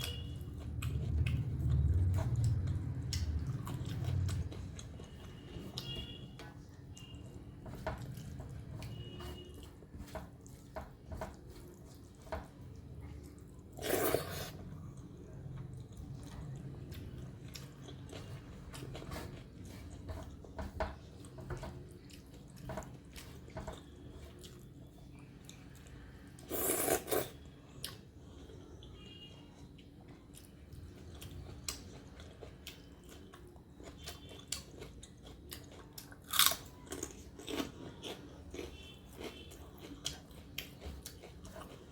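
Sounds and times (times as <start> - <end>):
chewing with wet mouth clicks: 0.0 - 41.9.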